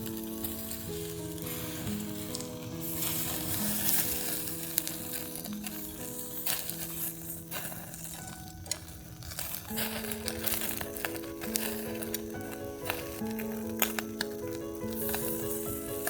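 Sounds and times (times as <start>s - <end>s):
food sizzling: 0.0s - 16.0s
soft background music: 0.0s - 16.0s.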